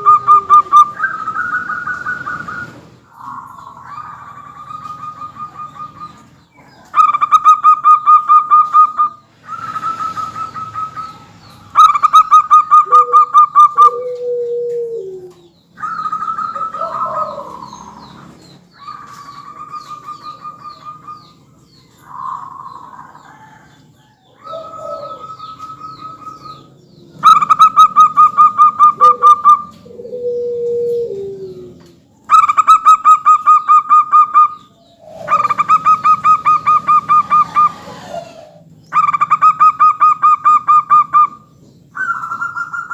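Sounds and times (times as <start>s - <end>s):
doves singing trilled calls: 0.0s - 42.9s.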